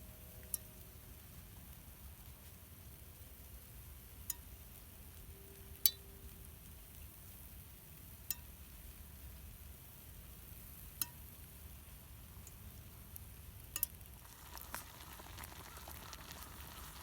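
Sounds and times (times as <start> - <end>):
campfire crackling: 0.0 - 17.0
faint low background noise: 0.0 - 17.0.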